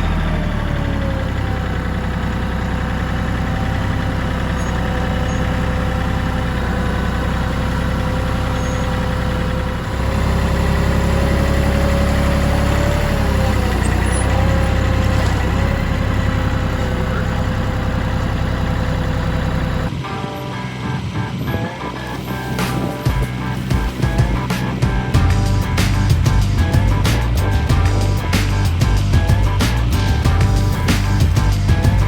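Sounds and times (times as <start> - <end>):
continuous whine: 0.0 - 32.0
tractor diesel engine running: 0.0 - 32.0.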